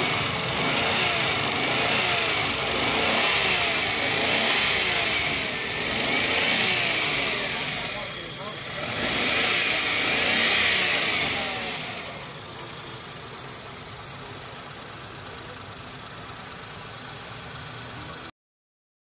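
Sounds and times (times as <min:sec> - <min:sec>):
car engine idling: 0:00.0 - 0:18.3
engine hiss: 0:00.0 - 0:18.3.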